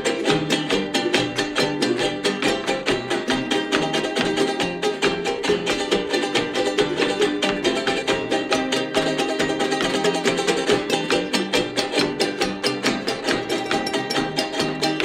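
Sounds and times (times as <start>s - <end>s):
acoustic guitars strumming: 0.0s - 15.0s
picked guitar melody: 0.0s - 15.0s.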